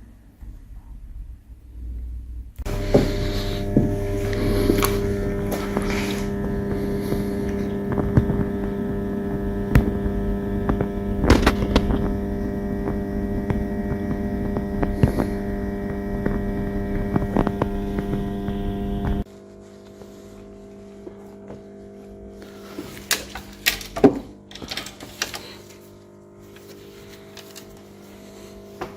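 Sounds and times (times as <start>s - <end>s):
steady hum with overtones: 0.0s - 28.9s.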